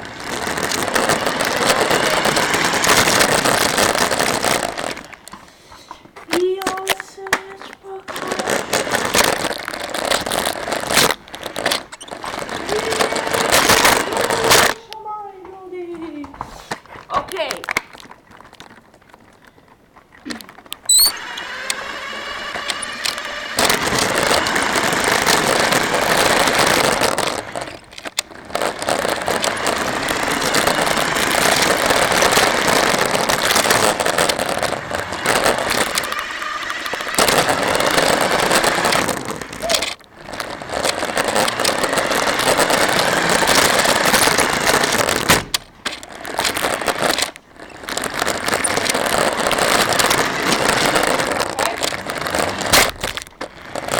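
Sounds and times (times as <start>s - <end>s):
wheels rattling on ground: 0.0s - 16.3s, 16.9s - 53.9s
toy car motor whining: 0.2s - 5.1s, 6.3s - 14.8s, 20.9s - 45.3s, 45.9s - 53.9s.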